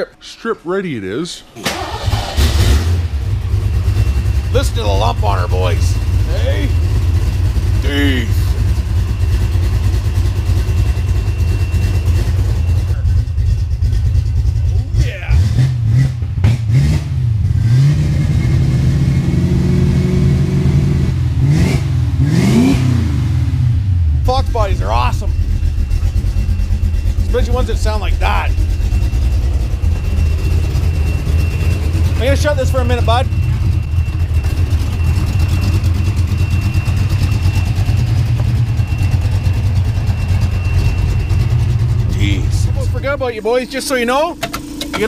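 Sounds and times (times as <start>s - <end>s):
car engine idling and revving: 1.6s - 45.0s.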